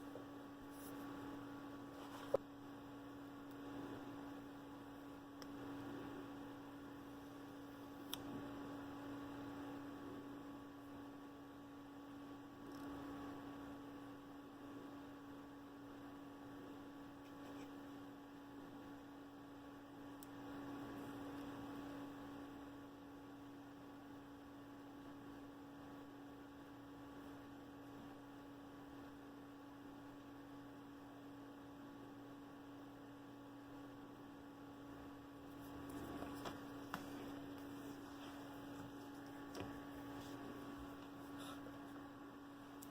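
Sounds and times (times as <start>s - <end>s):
faint electrical hum: 0.0s - 42.9s.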